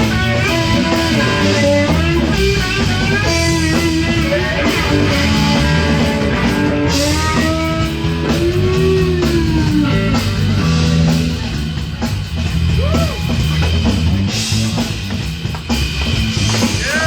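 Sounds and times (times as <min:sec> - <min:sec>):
bass and drums: 0:00.0 - 0:17.0
lead guitar: 0:00.0 - 0:17.0.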